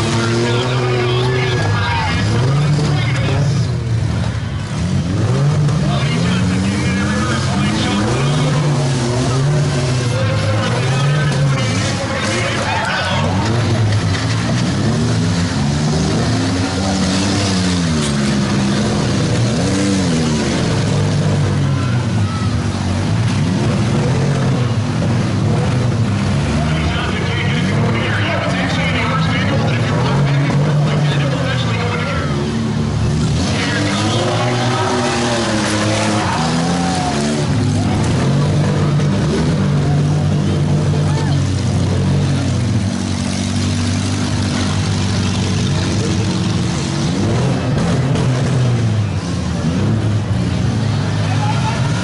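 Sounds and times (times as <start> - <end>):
minivan engines revving: 0.0 - 52.0.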